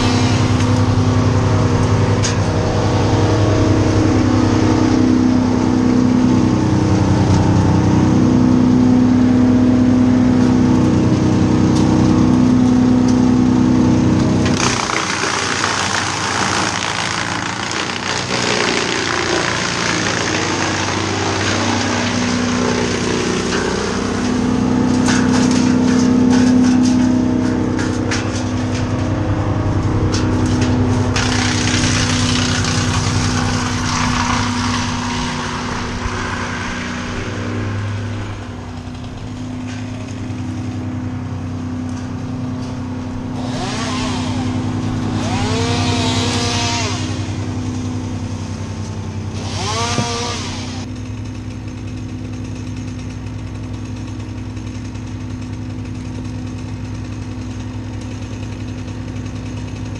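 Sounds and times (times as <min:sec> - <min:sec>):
chainsaw revving: 0:00.0 - 0:59.9
engine running: 0:00.0 - 0:59.9.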